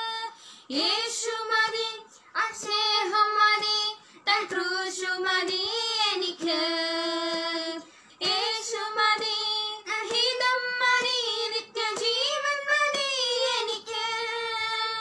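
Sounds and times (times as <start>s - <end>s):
women singing worship song: 0.0s - 15.0s.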